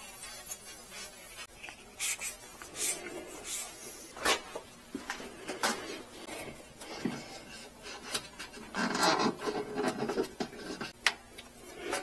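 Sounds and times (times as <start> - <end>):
hands rubbing and scraping wiring: 0.0 - 12.0.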